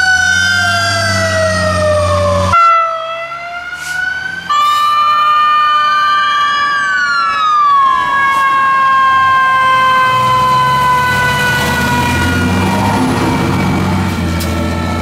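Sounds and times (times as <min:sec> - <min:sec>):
fire truck sirens: 0:00.0 - 0:15.0
truck engine rumbling: 0:00.0 - 0:15.0.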